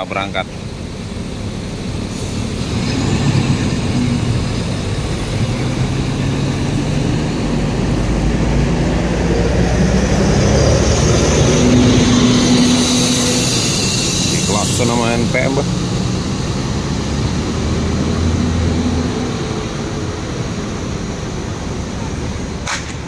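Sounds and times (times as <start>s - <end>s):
coach diesel engine pulling away: 0.0s - 23.0s
deep engine rumble of second coach: 0.0s - 23.0s.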